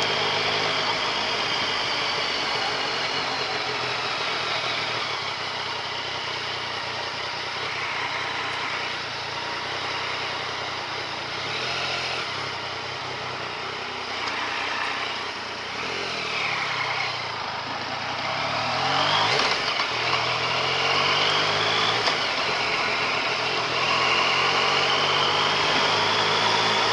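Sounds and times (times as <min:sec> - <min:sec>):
motorcycle engine: 0:00.0 - 0:26.9
wind and road noise: 0:00.0 - 0:26.9.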